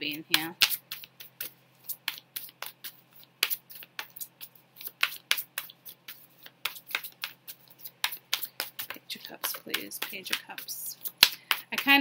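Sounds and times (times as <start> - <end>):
cards being shuffled: 0.1 - 12.0.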